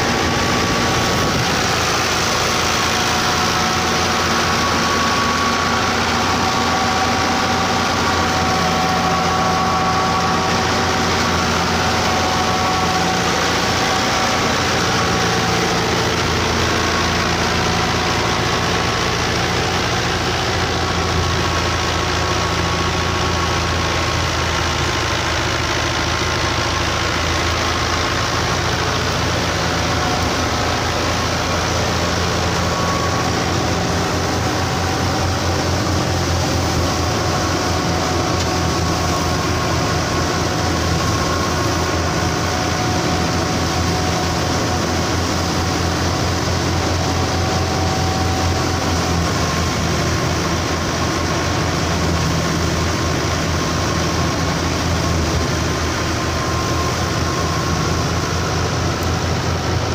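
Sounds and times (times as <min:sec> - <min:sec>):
thresher drum and blower whirring: 0:00.0 - 0:59.9
tractor diesel engine under load: 0:00.0 - 0:59.9.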